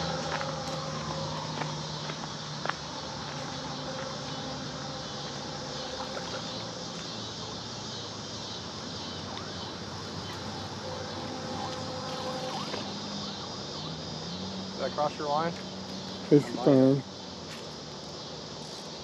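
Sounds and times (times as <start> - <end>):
distant traffic drone: 0.0 - 19.0
insects buzzing: 0.0 - 19.0.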